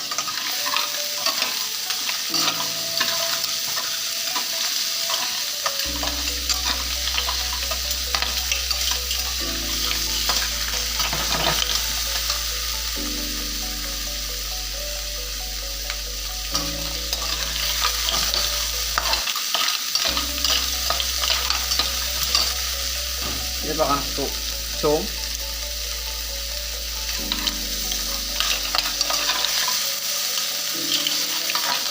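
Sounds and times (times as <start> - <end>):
soft background music: 0.0 - 31.9
vegetables sizzling in a frying pan: 0.0 - 31.9.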